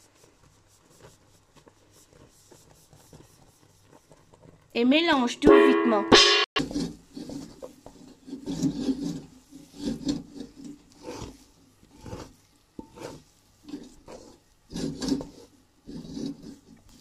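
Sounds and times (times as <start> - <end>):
wooden spatula scraping dough: 0.0 - 5.4, 6.6 - 17.0.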